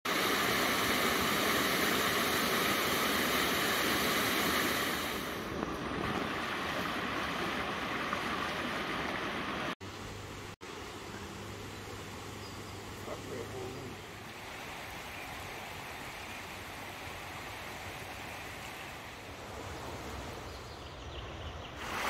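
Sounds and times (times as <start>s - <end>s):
creek running over rocks: 0.1s - 20.9s, 21.7s - 22.0s.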